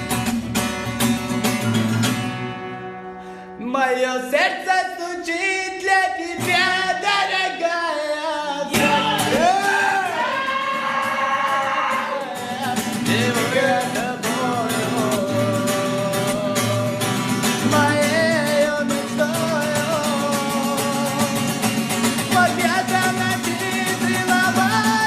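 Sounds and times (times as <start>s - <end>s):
guitar: 0.0s - 25.0s
person singing: 3.6s - 25.0s.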